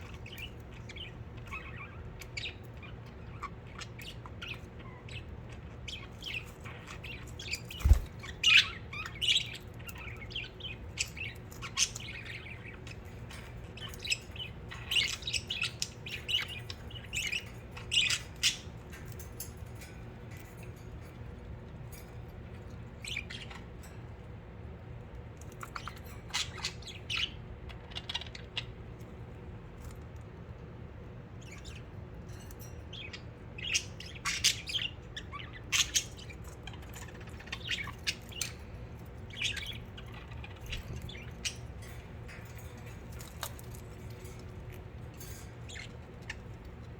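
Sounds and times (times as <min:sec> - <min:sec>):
budgerigars chirping: 0:00.0 - 0:20.8, 0:22.6 - 0:23.8, 0:25.5 - 0:28.8, 0:32.9 - 0:46.9.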